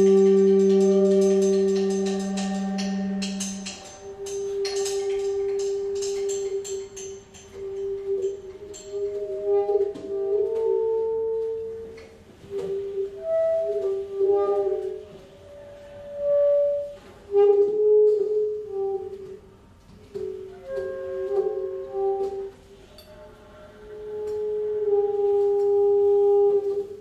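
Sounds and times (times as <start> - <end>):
cymbal and drum touches: 0.0 - 23.2
low brass horn: 0.0 - 27.0
saxophones playing held notes: 0.0 - 27.0.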